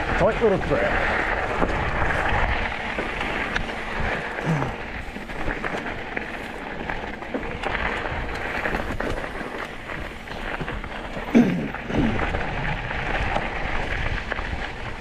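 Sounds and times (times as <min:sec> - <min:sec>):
bike tyres crunching on gravel: 0:00.0 - 0:15.0.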